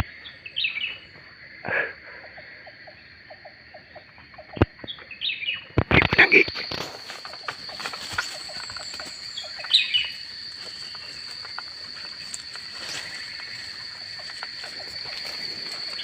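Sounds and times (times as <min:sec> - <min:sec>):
bird chirping: 0:00.0 - 0:01.2, 0:02.2 - 0:16.0
high insect drone: 0:00.0 - 0:16.0.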